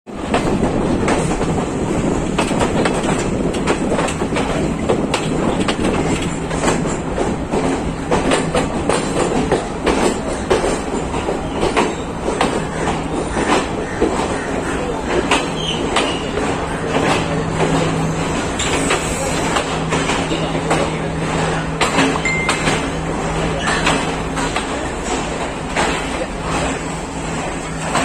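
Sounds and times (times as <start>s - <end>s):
train rumble: 0.1s - 28.0s.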